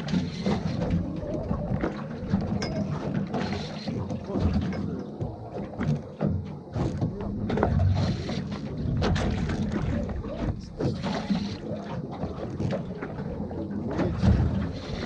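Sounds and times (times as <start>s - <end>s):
water and hull noise: 0.0s - 15.0s.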